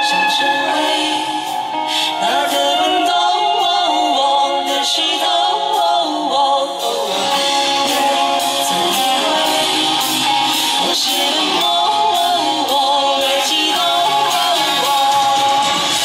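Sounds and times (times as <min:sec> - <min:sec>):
electric guitar: 0:00.0 - 0:16.0
woman singing: 0:00.0 - 0:16.0.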